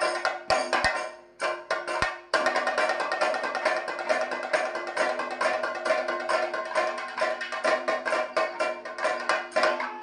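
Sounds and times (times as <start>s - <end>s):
drums beaten in quick strokes: 0.0s - 10.0s.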